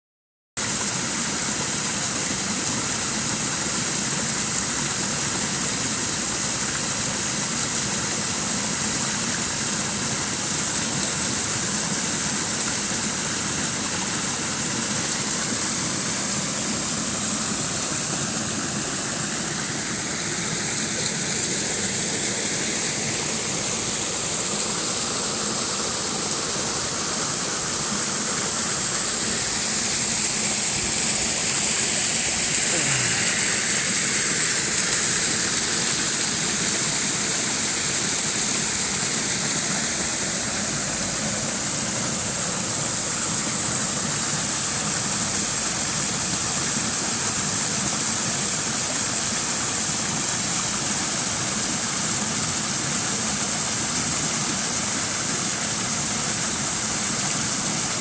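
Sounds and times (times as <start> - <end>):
water trickling into a pond: 0.6 - 58.0.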